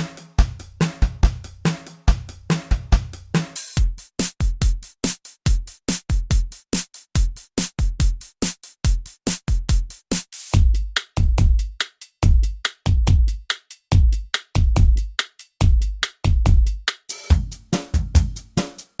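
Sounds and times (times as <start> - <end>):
drum machine beat: 0.0 - 19.0.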